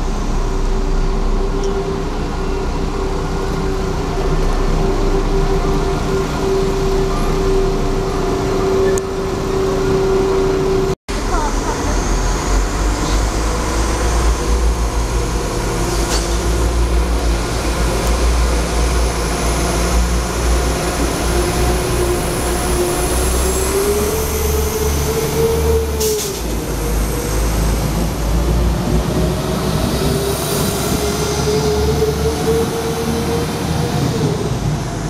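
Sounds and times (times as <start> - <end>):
diesel train engine rumble: 0.0 - 35.0.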